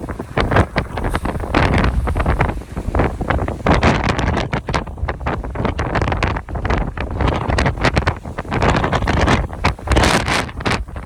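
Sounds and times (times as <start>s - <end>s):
wind gusting against microphone: 0.0s - 11.0s.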